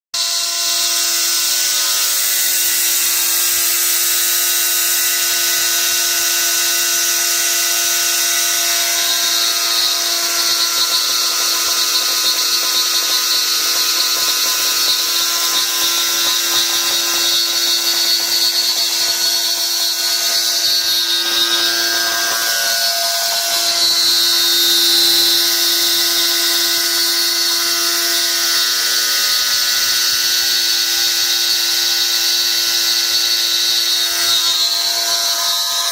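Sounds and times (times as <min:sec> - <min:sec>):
milling machine whine: 0:00.2 - 0:35.9.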